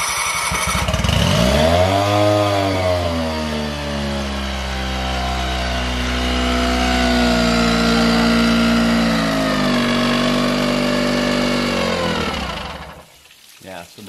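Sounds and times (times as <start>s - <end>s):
outboard engine running fast: 0.0s - 13.0s.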